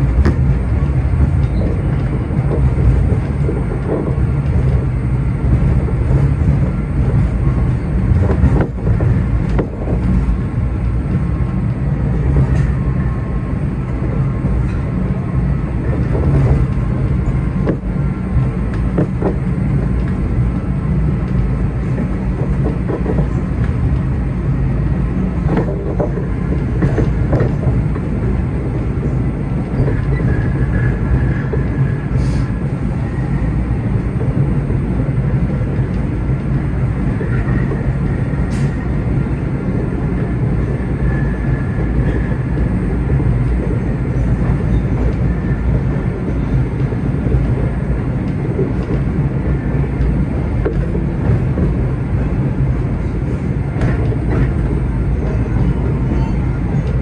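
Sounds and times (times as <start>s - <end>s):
subway wheels rumbling on rail: 0.0s - 57.0s.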